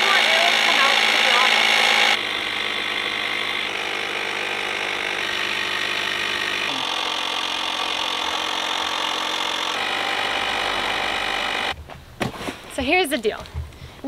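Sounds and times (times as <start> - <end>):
electric air pump running: 0.0 - 11.8.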